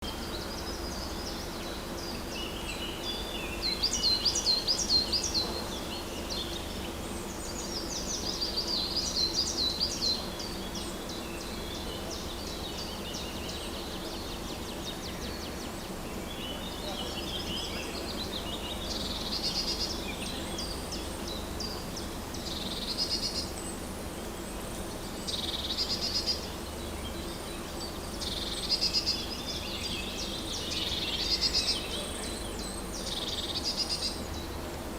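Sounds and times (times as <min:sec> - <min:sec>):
low background hum: 0:00.0 - 0:34.9
songbirds trilling: 0:00.0 - 0:34.9.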